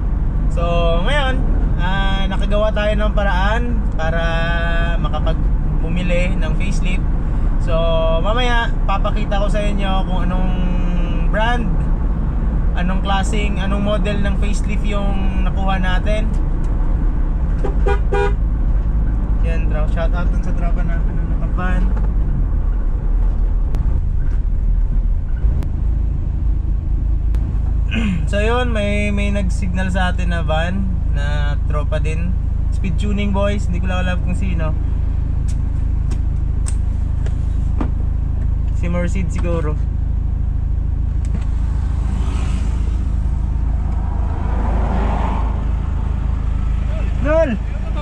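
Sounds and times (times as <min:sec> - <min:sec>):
passing vehicle: 0:00.0 - 0:28.6, 0:33.9 - 0:48.0
engine and road rumble: 0:00.0 - 0:48.0.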